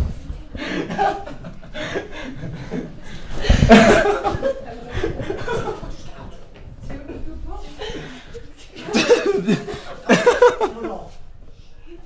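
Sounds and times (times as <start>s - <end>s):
people laughing: 0.6s - 6.3s, 6.9s - 11.2s.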